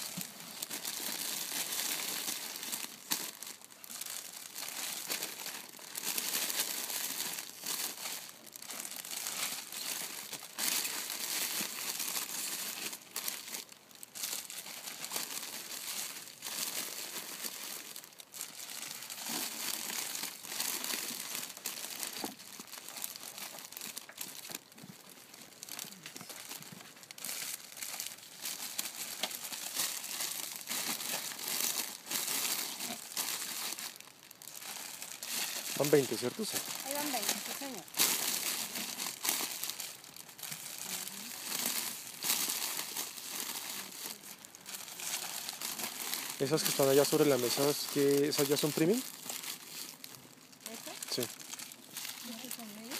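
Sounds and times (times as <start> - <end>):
plastic sleeves crinkling: 0.0 - 52.9.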